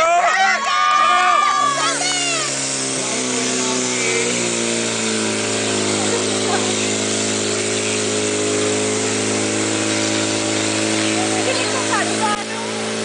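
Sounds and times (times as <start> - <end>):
pump engine running steadily: 0.0 - 13.0.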